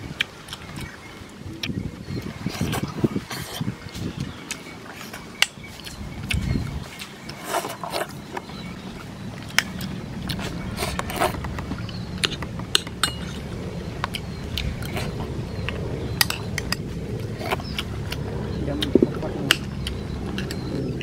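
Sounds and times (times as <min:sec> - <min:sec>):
steady low rumble: 0:00.0 - 0:07.4, 0:08.0 - 0:21.0
chewing: 0:00.2 - 0:21.0.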